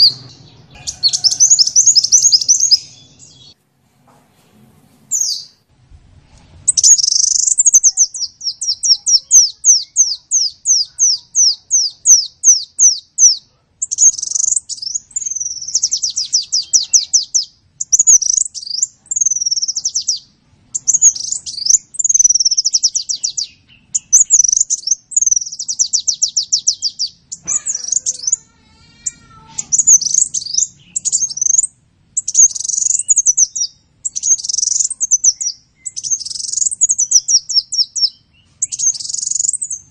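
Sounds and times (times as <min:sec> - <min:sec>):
sunbird singing high thin chirps: 0:00.0 - 0:03.6, 0:06.7 - 0:39.9.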